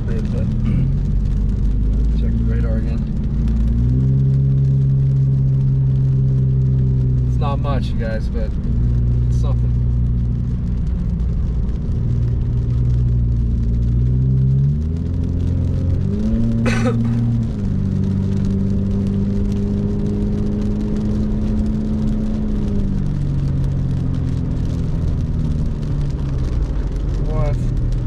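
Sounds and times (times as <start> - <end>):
car engine: 0.0 - 28.0
road noise: 0.0 - 28.0.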